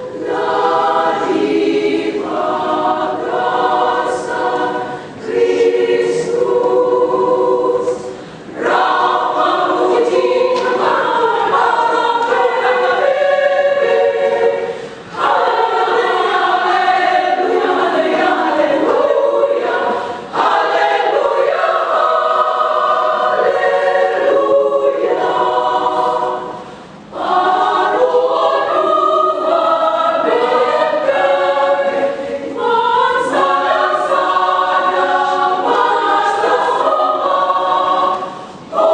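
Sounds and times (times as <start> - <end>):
women's choir singing: 0.0 - 38.9.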